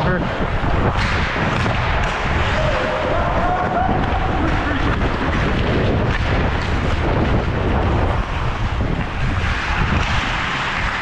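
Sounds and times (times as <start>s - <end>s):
wind buffeting microphone: 0.0s - 11.0s
skate blades scraping ice: 0.2s - 11.0s.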